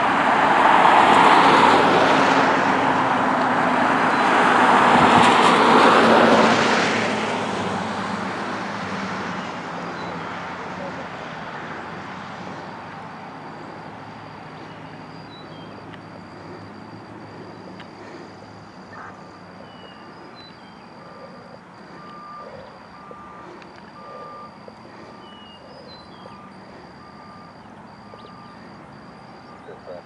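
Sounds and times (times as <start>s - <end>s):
diesel engine running: 0.0s - 30.0s
truck reversing alarm beeping: 0.0s - 30.0s.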